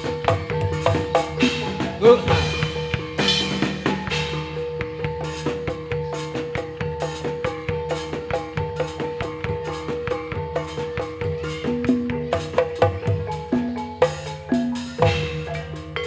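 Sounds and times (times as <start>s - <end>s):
drums quick even beat: 0.0s - 16.0s
metallophone notes: 0.0s - 16.0s.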